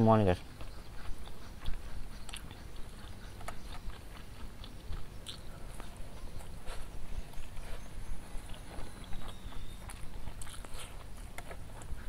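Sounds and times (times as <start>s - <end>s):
chewing fried food: 0.2s - 12.0s.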